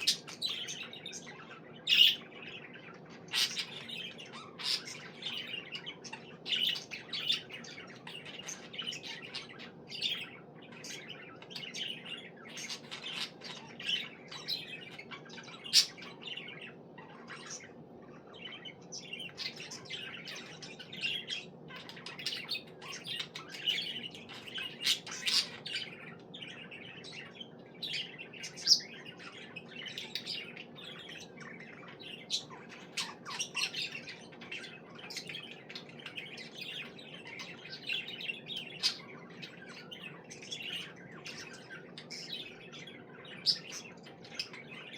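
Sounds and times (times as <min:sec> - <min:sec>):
budgerigar chirping and warbling: 0:00.0 - 0:44.9.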